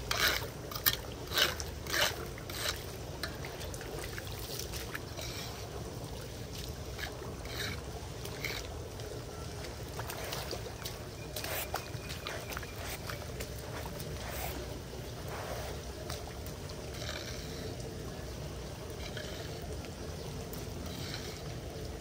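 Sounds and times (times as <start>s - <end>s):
water flowing and trickling: 0.0s - 22.0s
water splashing in a drain: 0.0s - 22.0s.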